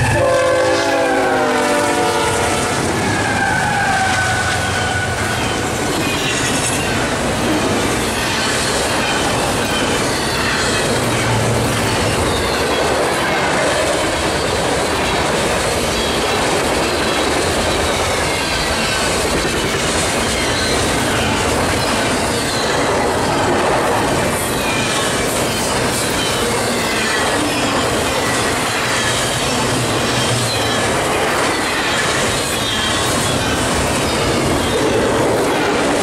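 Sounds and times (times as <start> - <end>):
steel wheels rushing on rail: 0.0 - 36.0.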